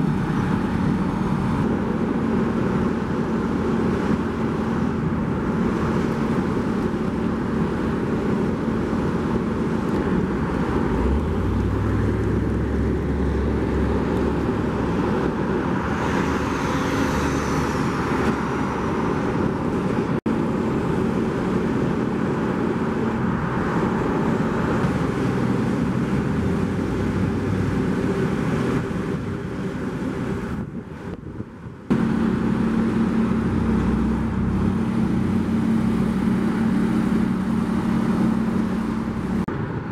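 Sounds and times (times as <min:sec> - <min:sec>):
diesel locomotive engine running: 0:00.0 - 0:39.9
road traffic: 0:00.0 - 0:39.9
trucks driving by: 0:00.0 - 0:39.9.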